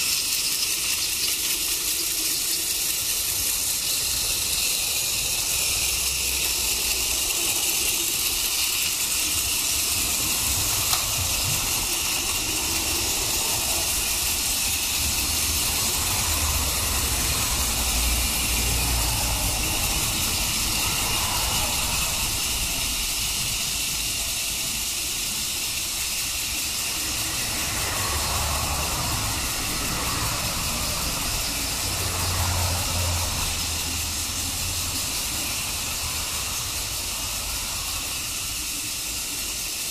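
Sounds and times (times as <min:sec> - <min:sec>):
toy trains whirring on track: 0:00.0 - 0:39.9.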